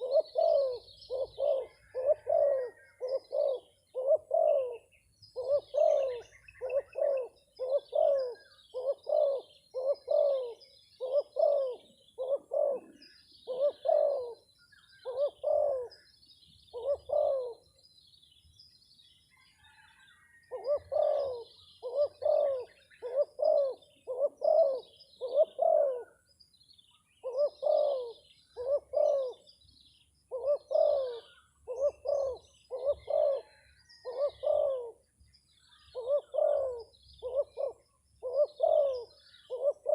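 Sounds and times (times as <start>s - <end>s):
dove cooing: 0.0s - 17.8s, 20.4s - 26.3s, 27.2s - 29.6s, 30.3s - 35.1s, 35.8s - 39.9s
faint small birds chirping: 0.0s - 39.9s.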